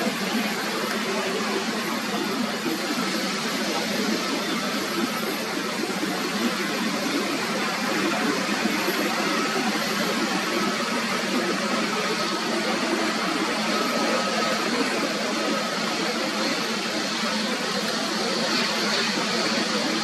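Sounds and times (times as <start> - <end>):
jet engines steady noise: 0.0 - 20.0.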